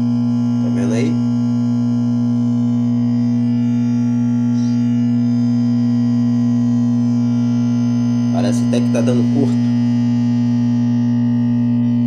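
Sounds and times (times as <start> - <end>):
microwave oven buzzing hum: 0.0 - 12.0.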